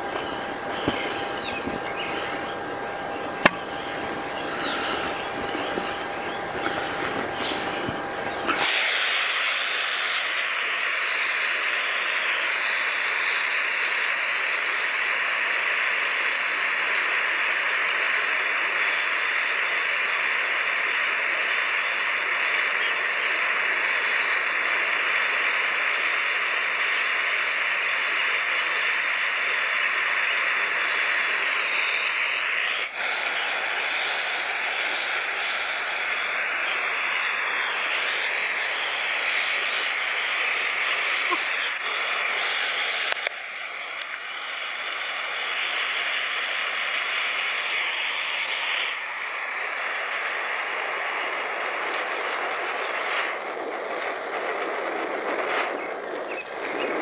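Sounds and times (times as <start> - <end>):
hot oil sizzling: 0.0 - 57.0.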